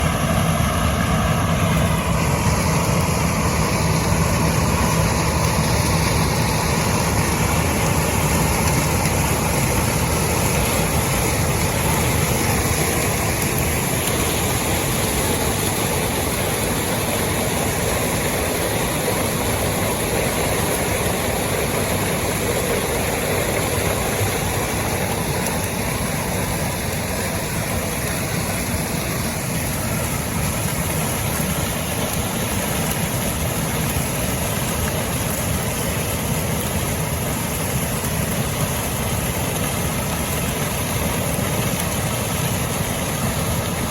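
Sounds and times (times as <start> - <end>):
combine harvester drone: 0.0 - 43.9.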